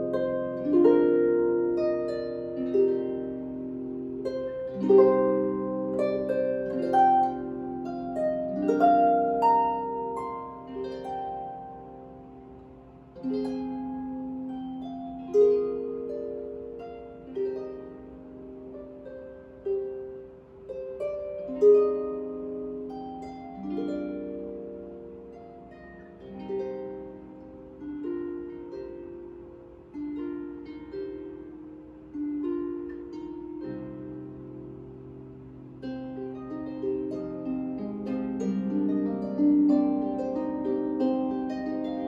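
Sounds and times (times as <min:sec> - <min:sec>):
plucked harp melody: 0:00.0 - 0:42.0.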